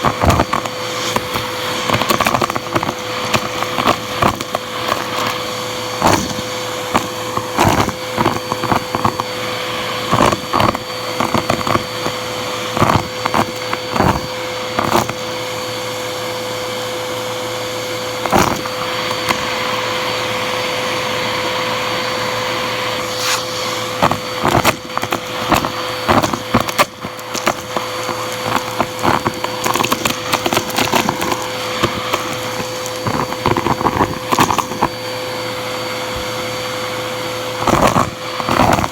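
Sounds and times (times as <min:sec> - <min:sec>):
debris rattling up hose: 0:00.0 - 0:15.6, 0:18.2 - 0:20.1, 0:22.8 - 0:35.2, 0:37.5 - 0:38.9
vacuum cleaner motor whine: 0:00.0 - 0:38.9.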